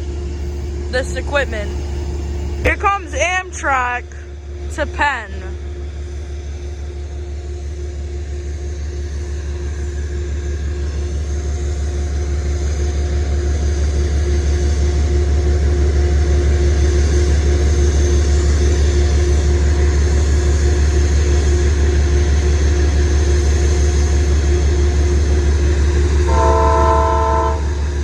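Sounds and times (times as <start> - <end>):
diesel locomotive rumbling: 0.0 - 28.0.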